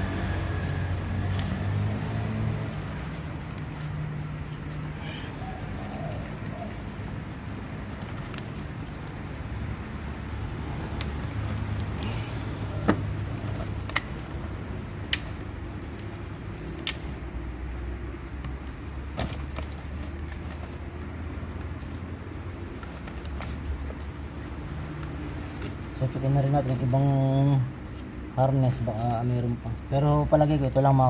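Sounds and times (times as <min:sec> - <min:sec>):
low engine hum: 0:00.0 - 0:28.7.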